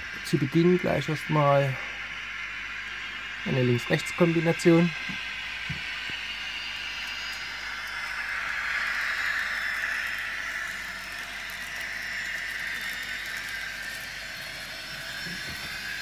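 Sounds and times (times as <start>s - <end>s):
model train motor whirring: 0.0s - 16.0s.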